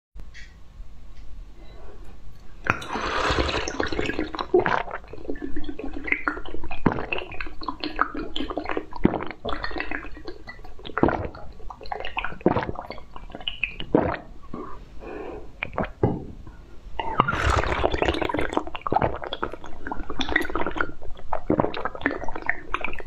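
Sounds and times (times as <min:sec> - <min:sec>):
mouth slurping jelly: 0:02.6 - 0:16.0, 0:17.0 - 0:23.0.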